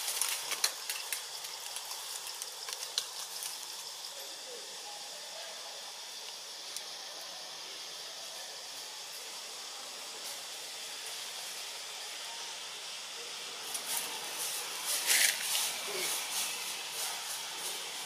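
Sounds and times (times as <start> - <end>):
forest ambience hiss: 0.0 - 18.0.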